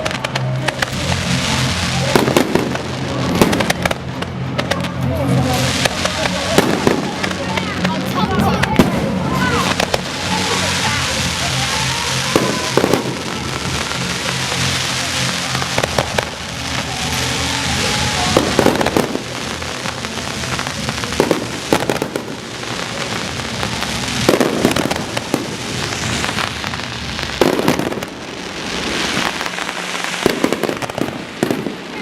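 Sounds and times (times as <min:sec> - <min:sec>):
fireworks bangs: 0:00.0 - 0:32.0
fireworks crackling and hissing: 0:00.0 - 0:32.0.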